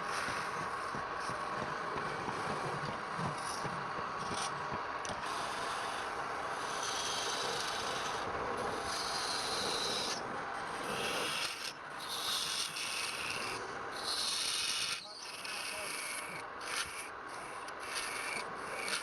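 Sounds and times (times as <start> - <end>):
tool rubbing on wood: 0.0 - 19.0.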